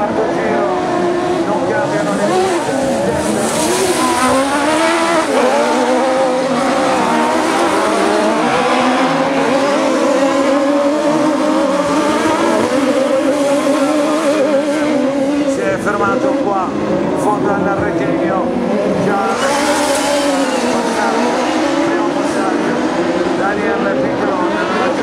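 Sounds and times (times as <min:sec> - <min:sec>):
racing buggy engines revving: 0:00.0 - 0:25.0.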